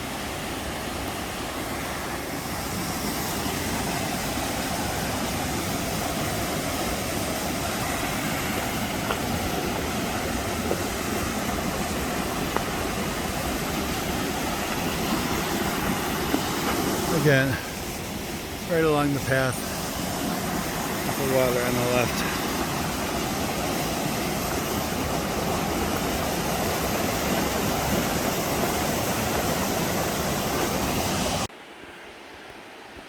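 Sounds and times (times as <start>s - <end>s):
creek rushing: 0.0s - 33.0s.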